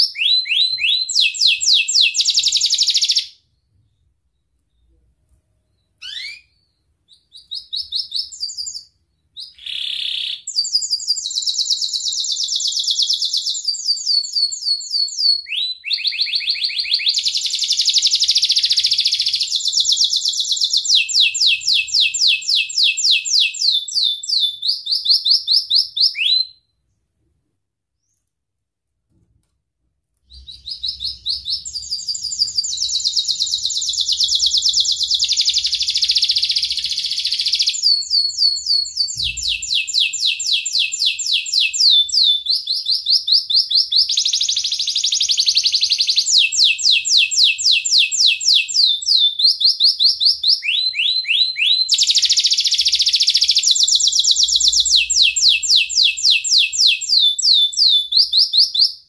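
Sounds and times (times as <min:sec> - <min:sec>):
canary singing trills: 0:05.8 - 0:26.6, 0:30.3 - 0:59.0.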